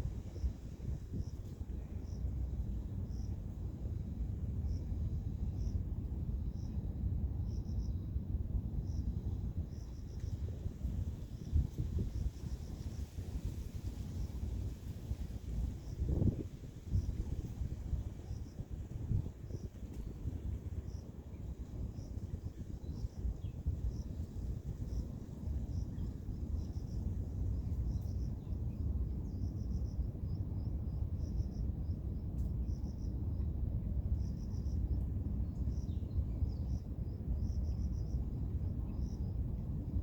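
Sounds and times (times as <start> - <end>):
insects chirping: 0.0 - 8.2, 8.8 - 28.5, 34.1 - 39.4.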